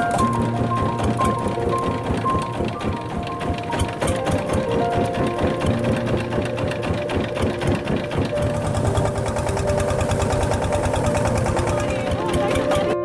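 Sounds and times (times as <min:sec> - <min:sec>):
motorboat engine clattering: 0:00.0 - 0:13.0.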